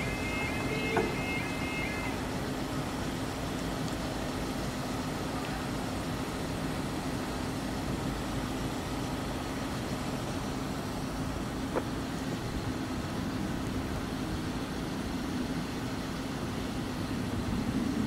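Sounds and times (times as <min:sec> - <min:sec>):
constant low hum: 0:00.0 - 0:18.0
vehicle rumble: 0:00.0 - 0:18.0.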